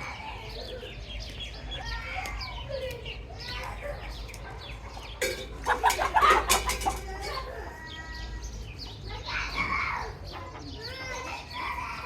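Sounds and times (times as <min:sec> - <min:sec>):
chickens clucking: 0:00.0 - 0:12.0
chicks peeping: 0:00.0 - 0:12.0.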